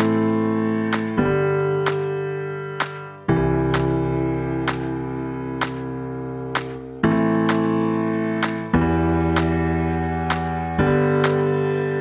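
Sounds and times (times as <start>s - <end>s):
sustained low chords: 0.0s - 12.0s.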